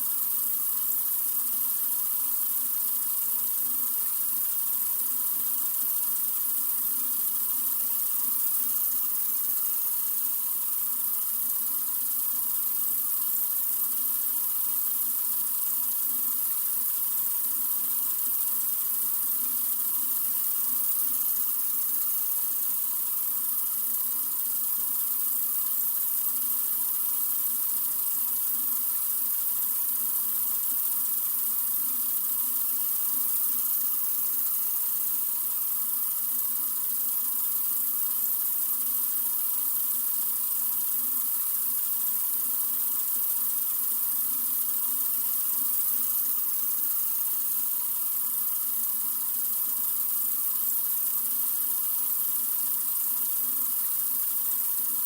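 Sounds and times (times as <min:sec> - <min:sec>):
water running from faucet: 0:00.0 - 0:55.0.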